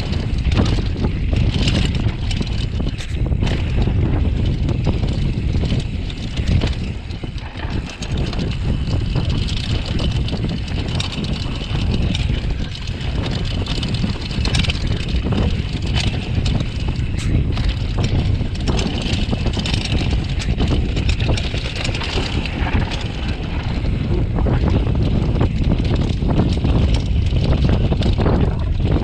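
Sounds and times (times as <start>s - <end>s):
bike rattling and knocking: 0.0s - 29.0s
wind rumble on microphone: 0.0s - 29.0s
tyres crunching over dirt: 0.4s - 28.9s.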